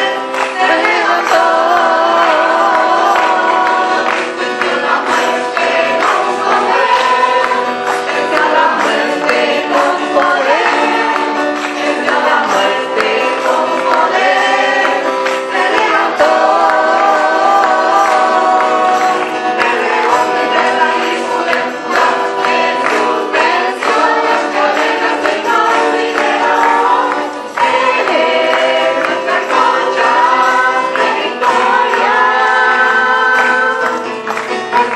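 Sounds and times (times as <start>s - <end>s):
choir singing: 0.0s - 34.9s
guitar accompaniment: 0.0s - 34.9s.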